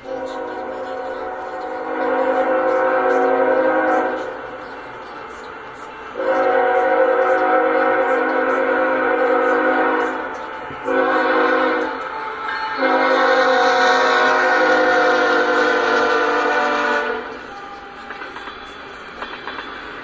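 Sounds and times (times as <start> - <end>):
locomotive air horn blasts: 0.0 - 4.5, 6.2 - 17.9
rolling train cars: 0.0 - 20.0.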